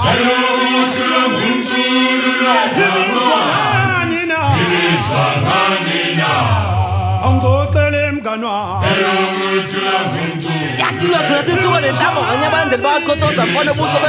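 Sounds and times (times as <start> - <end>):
male choir singing a cappella: 0.0 - 14.0.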